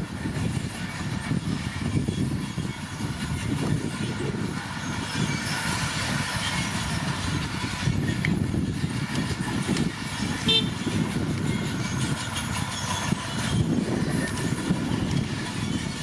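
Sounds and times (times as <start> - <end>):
diesel engine rumbling: 0.0 - 16.0
steel tracks clattering: 0.0 - 16.0.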